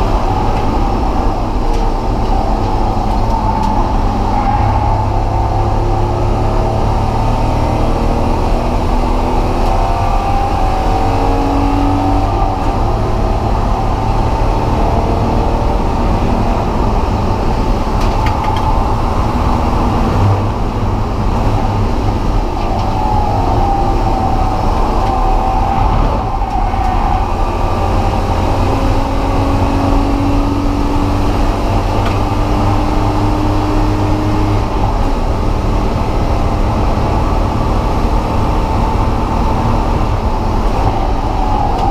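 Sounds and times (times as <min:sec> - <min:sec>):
car engine revving on track: 0:00.0 - 0:41.9
road and wind noise: 0:00.0 - 0:41.9.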